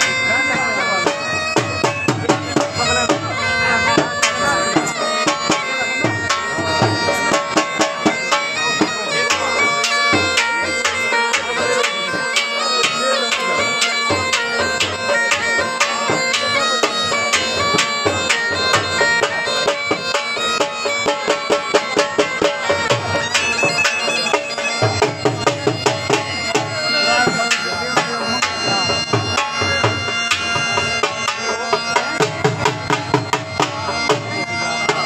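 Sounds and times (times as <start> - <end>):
bagpipe melody with drone: 0.0 - 35.0
drum beaten with sticks: 0.0 - 35.0.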